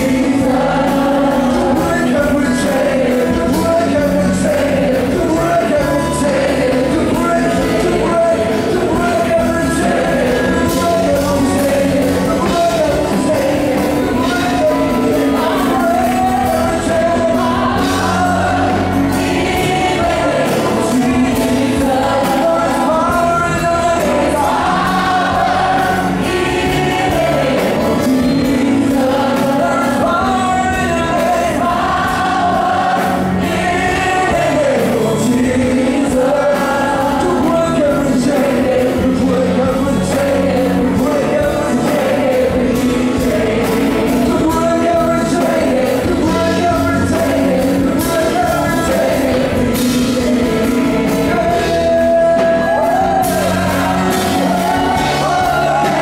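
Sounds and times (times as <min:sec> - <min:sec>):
congregation singing gospel: 0:00.0 - 0:56.0
musical accompaniment: 0:00.0 - 0:56.0.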